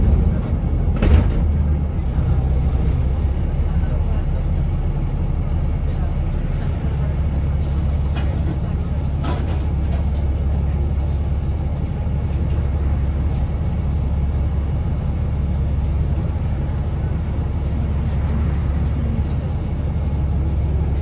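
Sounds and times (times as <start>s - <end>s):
bus engine droning: 0.0s - 21.0s
faint ticking: 1.5s - 21.0s.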